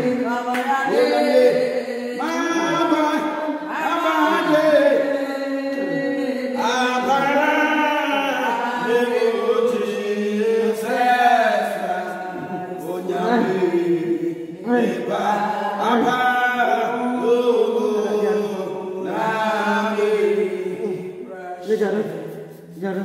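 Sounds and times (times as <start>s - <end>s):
voices chanting held tones: 0.0s - 21.4s.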